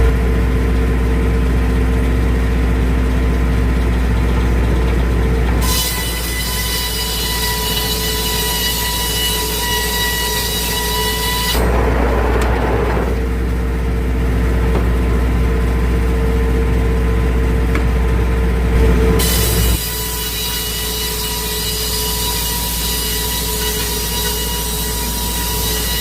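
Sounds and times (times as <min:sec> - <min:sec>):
sawmill high whine: 0:00.0 - 0:26.0
sawmill low hum: 0:00.0 - 0:26.0.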